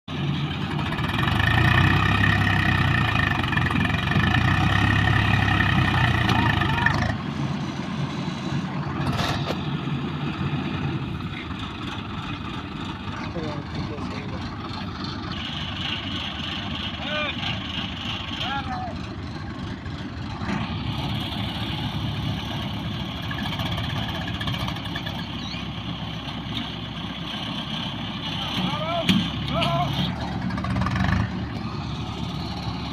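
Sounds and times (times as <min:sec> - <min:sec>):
combine harvester engine rumble: 0:00.0 - 0:32.9.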